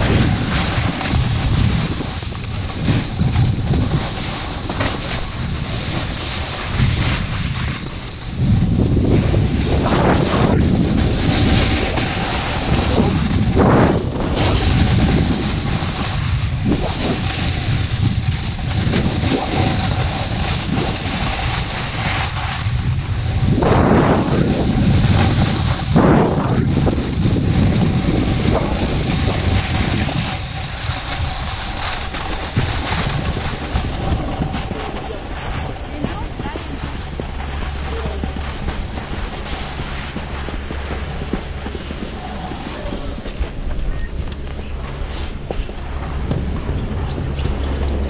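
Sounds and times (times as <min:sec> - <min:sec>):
skis hissing over snow: 0:00.0 - 0:48.0
skis scraping: 0:00.0 - 0:48.0
wind buffeting microphone: 0:00.0 - 0:48.0.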